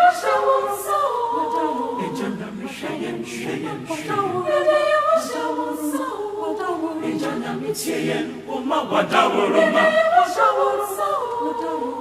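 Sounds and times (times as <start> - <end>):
choir singing worship song: 0.0 - 12.0.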